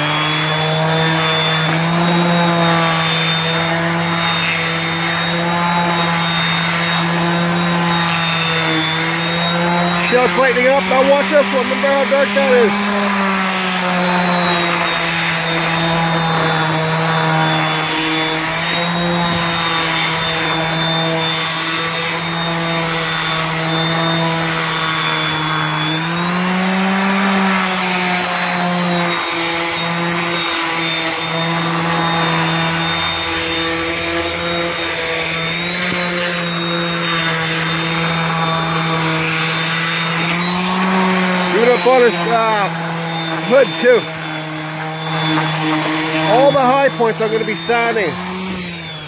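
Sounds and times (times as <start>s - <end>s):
orbital sander whining: 0.0s - 49.0s
sandpaper rasping on wood: 0.0s - 49.0s.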